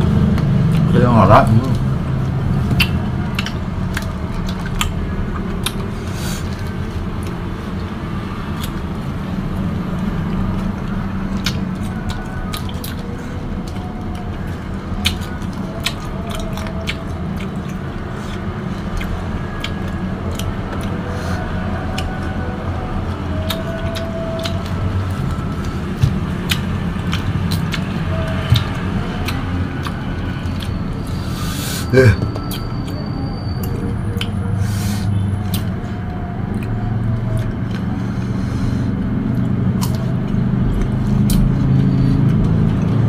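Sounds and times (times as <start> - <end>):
biting and chewing mango: 0.0 - 43.0.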